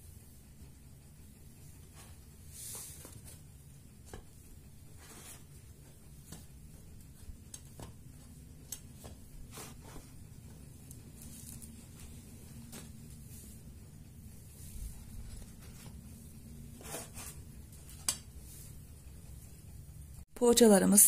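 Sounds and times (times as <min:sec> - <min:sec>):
low steady background hum: 0:00.0 - 0:21.0.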